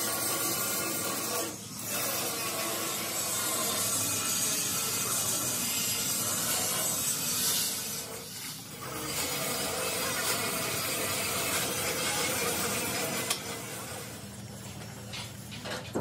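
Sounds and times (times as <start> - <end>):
metal rasping: 0.0 - 13.7.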